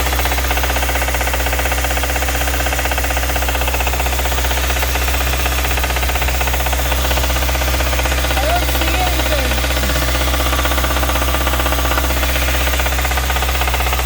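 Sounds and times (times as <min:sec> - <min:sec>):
car engine ticking clatter: 0:00.0 - 0:14.0.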